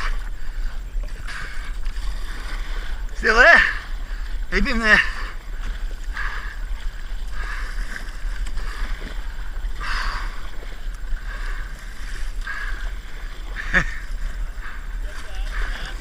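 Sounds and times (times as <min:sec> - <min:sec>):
water sloshing around kayak: 0:00.0 - 0:16.0
wind rumbling on microphone: 0:00.0 - 0:16.0.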